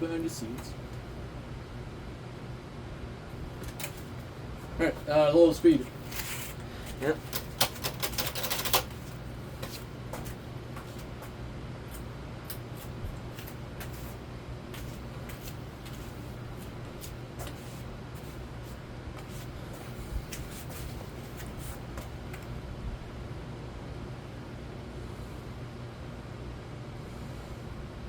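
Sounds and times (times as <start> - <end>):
ceiling fan motor hum: 0.0 - 28.0.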